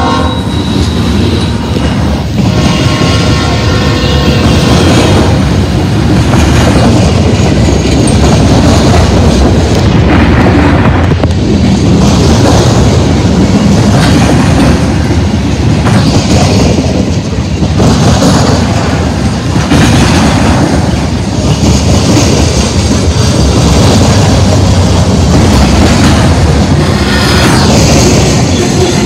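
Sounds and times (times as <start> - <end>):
steel train wheels on rails: 0.0 - 29.0.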